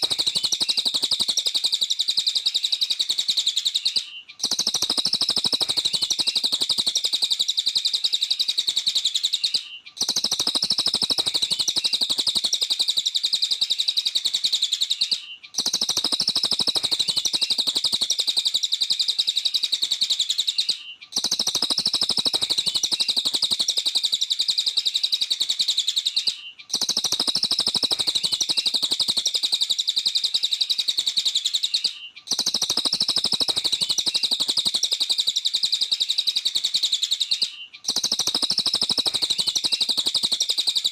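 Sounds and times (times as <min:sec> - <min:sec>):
songbird high chirping song: 0:00.0 - 0:40.9.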